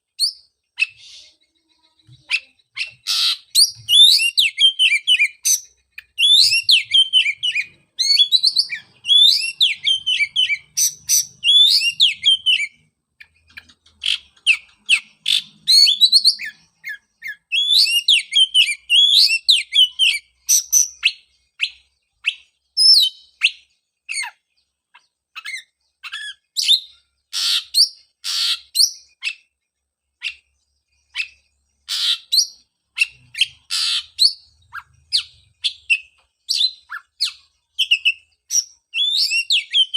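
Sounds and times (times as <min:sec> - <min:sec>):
harsh rasping bird calls: 0:00.0 - 0:29.6, 0:30.2 - 0:39.9
bird singing whistled phrases: 0:00.2 - 0:12.8, 0:14.4 - 0:24.4, 0:25.4 - 0:29.5, 0:30.2 - 0:39.9.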